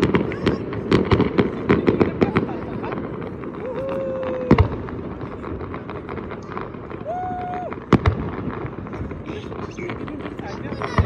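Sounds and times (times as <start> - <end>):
fireworks pops and crackles: 0.0 - 11.0
loud firework bangs: 0.0 - 11.0.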